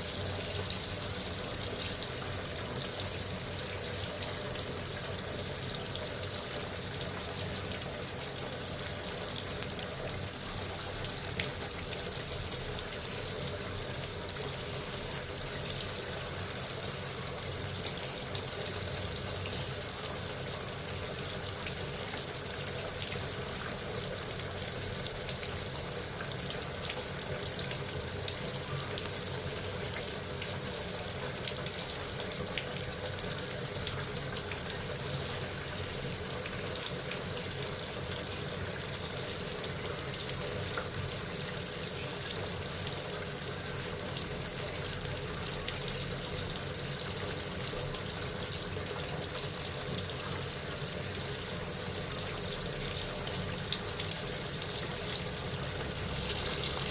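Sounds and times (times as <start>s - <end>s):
water rushing in washing machine: 0.0s - 56.9s.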